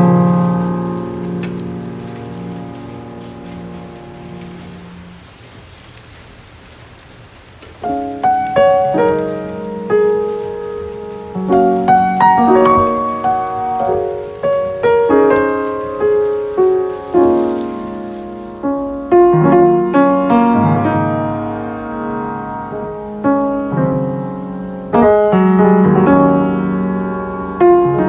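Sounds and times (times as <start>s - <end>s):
gentle piano music: 0.0s - 6.4s, 7.4s - 28.0s.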